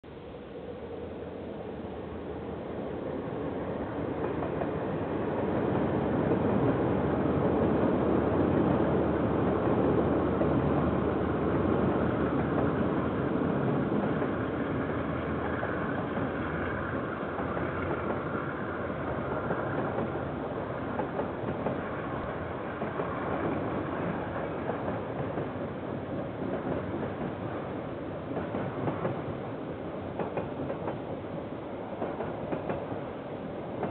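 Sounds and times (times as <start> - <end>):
freight train wheels on rail: 0.1 - 33.9.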